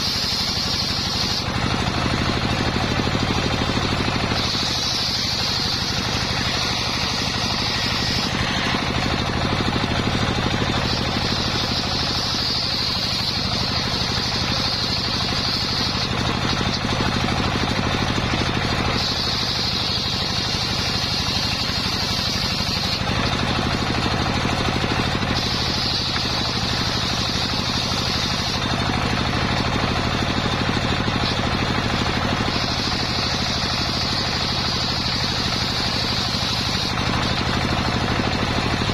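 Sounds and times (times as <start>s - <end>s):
circular saw whining through wood: 0.0s - 38.9s.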